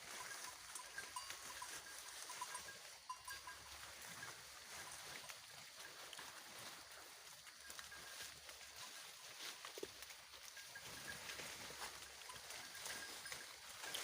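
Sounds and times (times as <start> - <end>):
goats feeding on leaves: 0.0 - 14.0
leaves rustling: 0.0 - 14.0.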